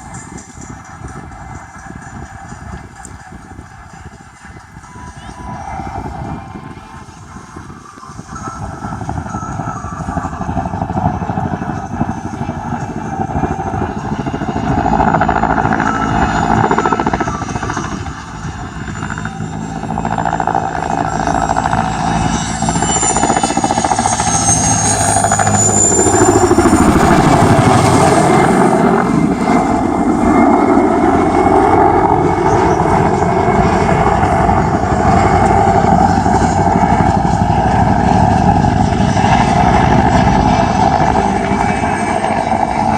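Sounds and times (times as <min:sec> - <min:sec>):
helicopter flying past: 0:00.0 - 0:42.9.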